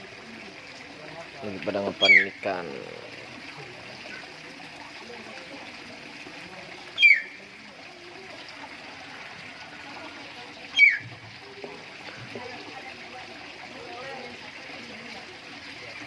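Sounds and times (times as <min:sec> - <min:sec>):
trickling water: 0:00.0 - 0:16.0.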